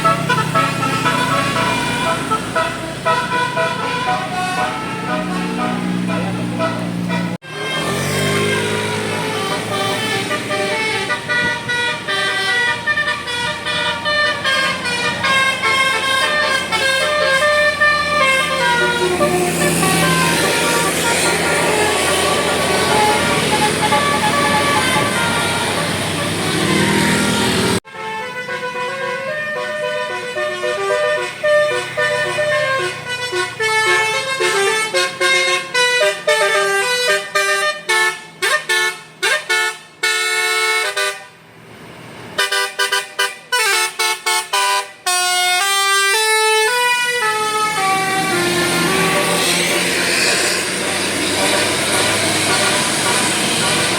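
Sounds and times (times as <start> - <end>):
multi-tone bus horn melody: 0.0 - 41.4, 42.4 - 53.9.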